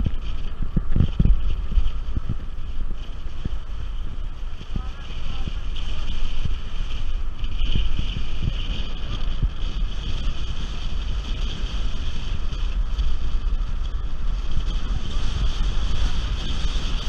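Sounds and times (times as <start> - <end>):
hiss of air and road noise: 0.0 - 17.0
wind buffeting microphone: 0.0 - 17.0.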